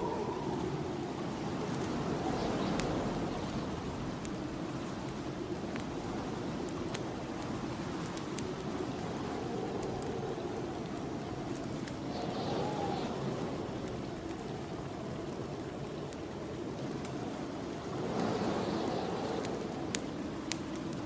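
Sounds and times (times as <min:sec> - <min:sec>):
snowstorm wind blowing: 0:00.0 - 0:21.0
wood fire crackling: 0:00.0 - 0:21.0.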